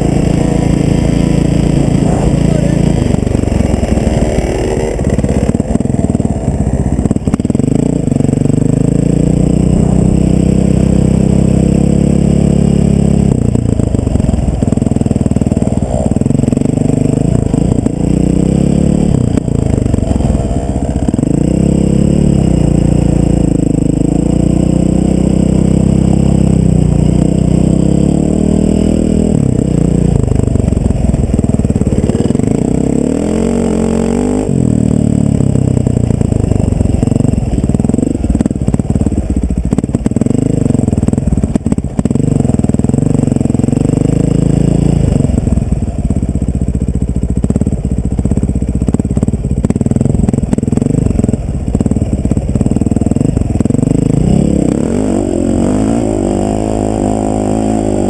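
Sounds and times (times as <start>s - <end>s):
dirt bike engine revving: 0.0s - 46.6s, 48.3s - 58.0s.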